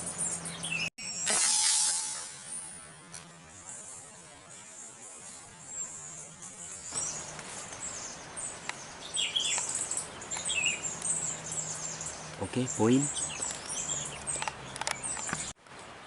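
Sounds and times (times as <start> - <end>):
small birds chirping: 0.0 - 1.3, 3.5 - 15.6
high insect buzz: 1.0 - 15.4.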